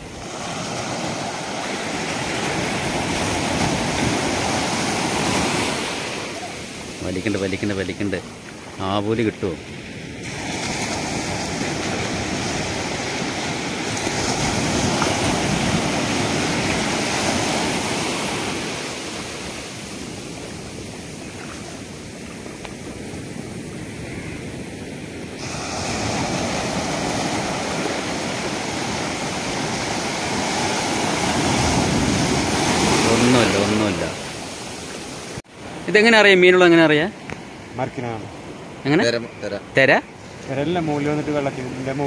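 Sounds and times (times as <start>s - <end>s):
sea waves breaking: 0.0s - 42.0s.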